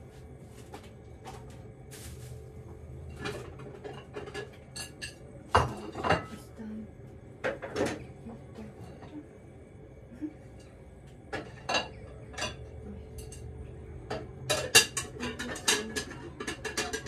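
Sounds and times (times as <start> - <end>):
dishes clinking in a refrigerator: 0.6 - 6.6, 7.2 - 9.5, 10.2 - 17.0.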